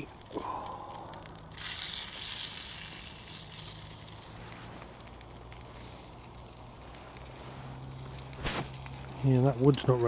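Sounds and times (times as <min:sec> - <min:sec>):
chicken sizzling in pan: 0:00.0 - 0:10.0.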